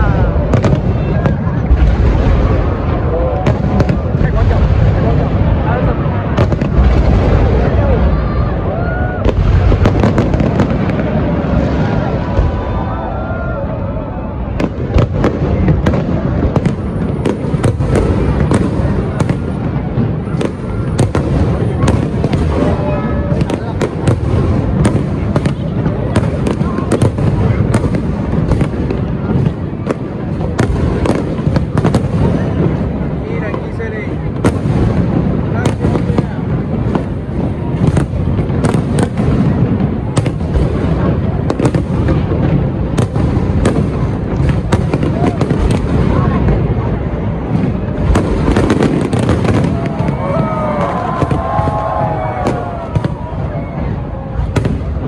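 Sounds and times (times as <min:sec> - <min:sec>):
fireworks bangs and cracks: 0:00.0 - 0:55.0
low rumble of fireworks bursts: 0:00.0 - 0:55.0.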